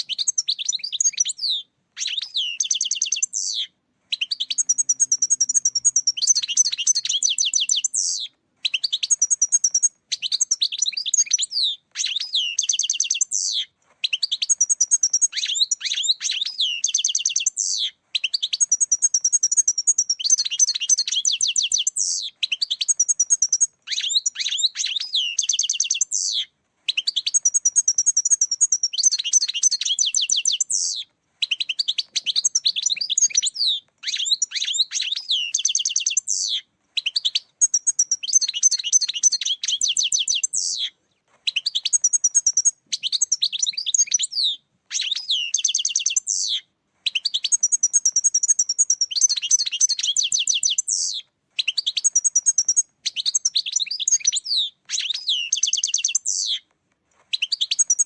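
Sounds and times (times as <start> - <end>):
goldfinch twittering song: 0.0 - 40.9, 41.5 - 56.6, 57.4 - 58.0.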